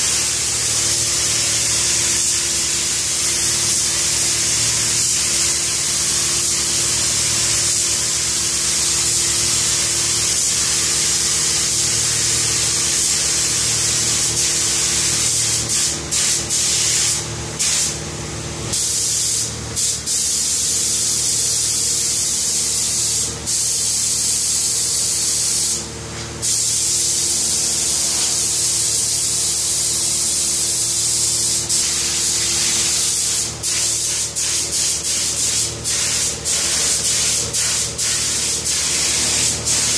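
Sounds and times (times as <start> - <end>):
paint spray gun hissing: 0.0 - 18.0, 18.7 - 39.9.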